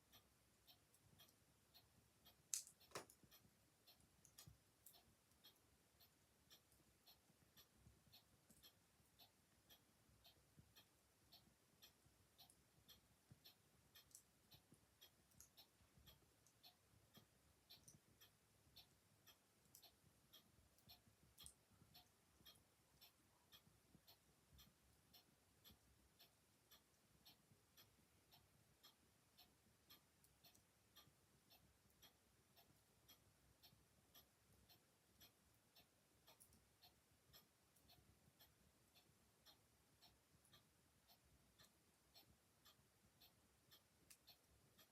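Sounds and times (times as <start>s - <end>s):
clock ticking: 0.0s - 44.9s.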